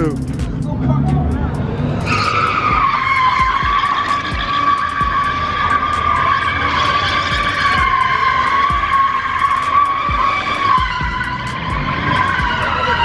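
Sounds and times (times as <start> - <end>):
car engine running: 0.0 - 13.0
car tires screeching: 0.0 - 13.0.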